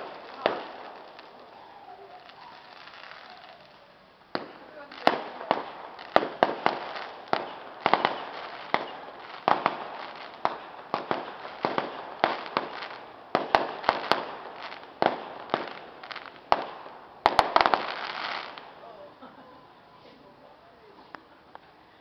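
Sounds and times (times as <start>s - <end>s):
fireworks banging: 0.0s - 18.8s.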